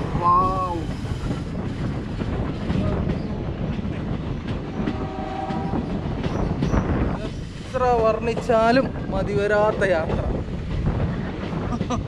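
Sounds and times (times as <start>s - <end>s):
rail joints clattering: 0.0s - 12.0s
train wheels rumbling on rails: 0.0s - 12.0s.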